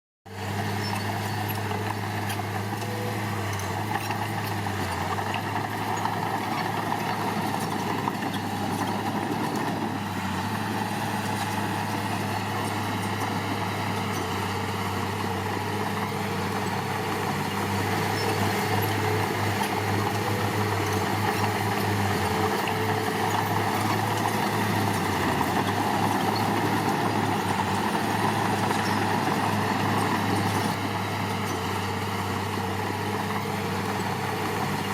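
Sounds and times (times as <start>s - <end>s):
heavy machinery diesel engine: 0.3s - 34.9s.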